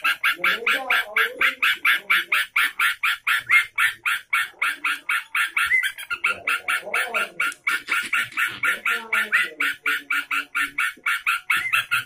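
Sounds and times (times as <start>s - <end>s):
bird calling in harsh notes: 0.0s - 12.0s.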